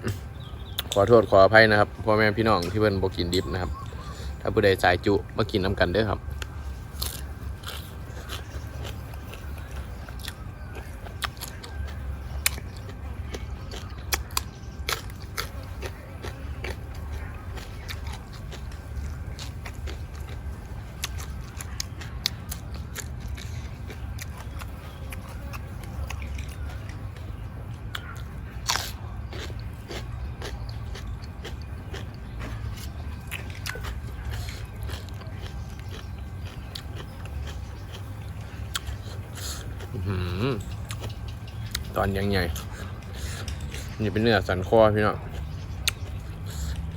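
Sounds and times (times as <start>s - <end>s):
low steady hum: 0.0s - 46.9s
person chewing crunchy food: 0.0s - 46.9s.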